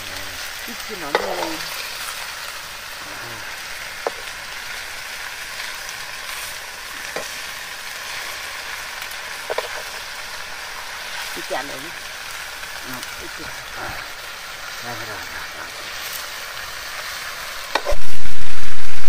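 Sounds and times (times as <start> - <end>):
greens sizzling in a pan: 0.0 - 19.0.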